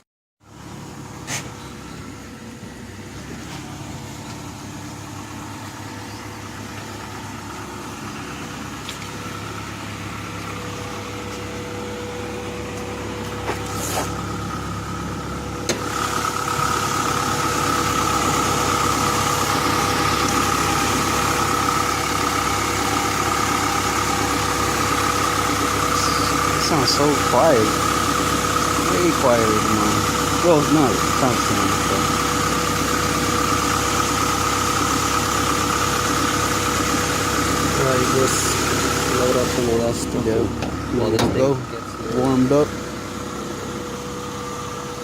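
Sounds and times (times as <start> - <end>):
car engine idling: 0.4 - 45.0
steady whine: 0.9 - 45.0.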